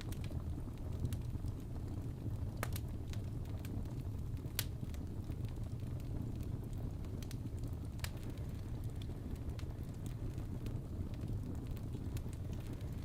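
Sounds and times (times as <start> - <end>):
fire crackles and pops: 0.0 - 13.0
wood fire roaring: 0.0 - 13.0.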